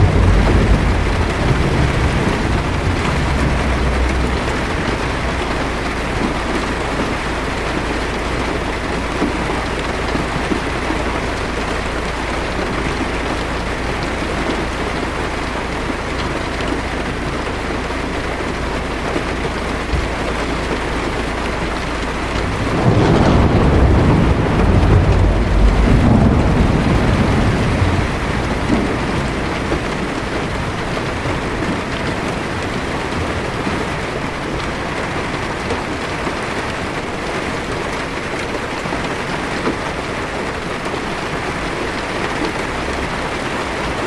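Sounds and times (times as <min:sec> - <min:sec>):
heavy rain on car roof: 0:00.0 - 0:44.0
thunder rumble: 0:00.0 - 0:44.0.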